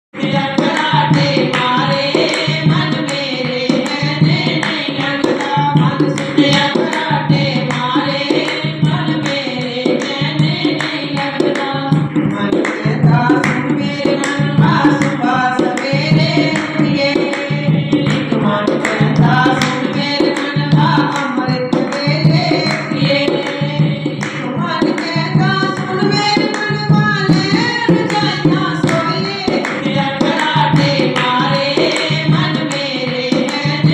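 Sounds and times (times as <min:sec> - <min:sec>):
hand drum beat: 0:00.2 - 0:33.9
person singing devotional song: 0:00.2 - 0:33.9.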